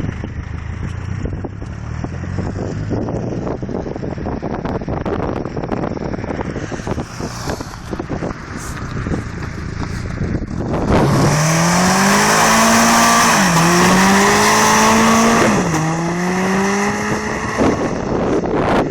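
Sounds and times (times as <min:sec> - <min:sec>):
car engine accelerating: 0:00.0 - 0:18.9
wind and road noise: 0:00.0 - 0:18.9.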